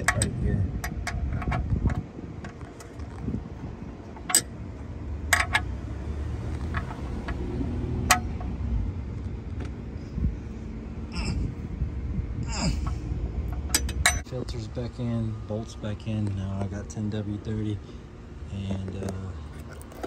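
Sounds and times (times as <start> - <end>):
low rumble: 0.0 - 19.8.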